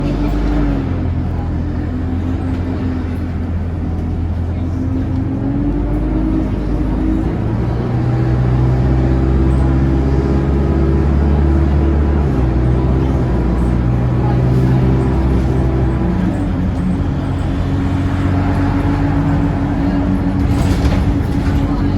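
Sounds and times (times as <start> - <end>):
bus diesel engine drone: 0.0 - 21.9.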